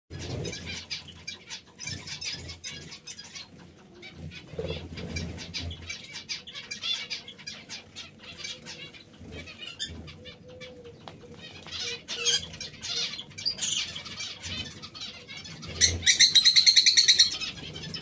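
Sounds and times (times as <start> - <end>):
parrots chirping: 0.1 - 18.0.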